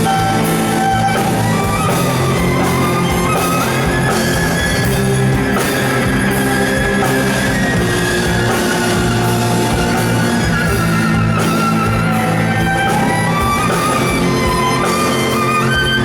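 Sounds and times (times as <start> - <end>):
instrumental rock band: 0.0 - 16.0.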